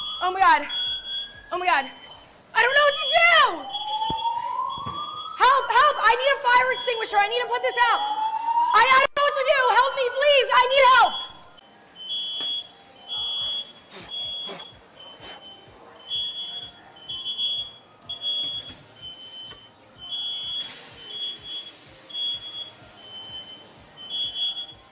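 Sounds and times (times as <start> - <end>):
smoke alarm beeping: 0.0 - 7.1, 7.7 - 8.8, 10.8 - 24.9.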